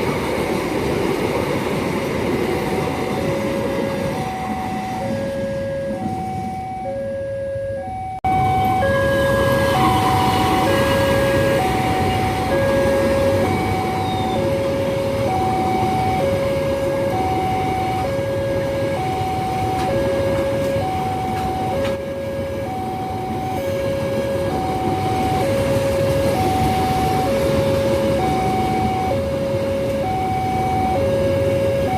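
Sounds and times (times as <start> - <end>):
train rumbling past: 0.0 - 31.9
two-tone crossing alarm: 0.0 - 31.9.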